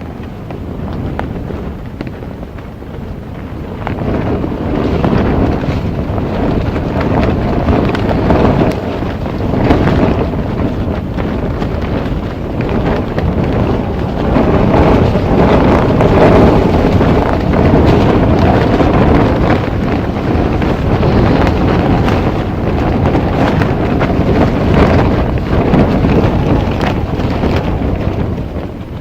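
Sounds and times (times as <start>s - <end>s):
strong wind against microphone: 0.0s - 29.0s.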